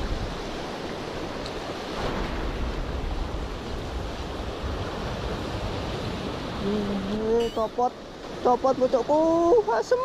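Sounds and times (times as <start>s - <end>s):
surf breaking on rocks: 0.0s - 9.3s.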